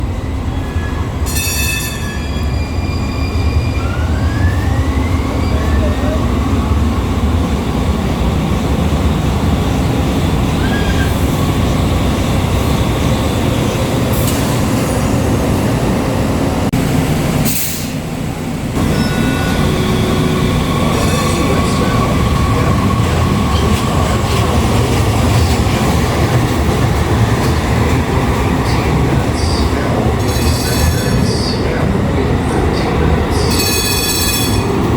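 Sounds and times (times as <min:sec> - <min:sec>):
rail car wheels rumbling: 0:00.0 - 0:34.9.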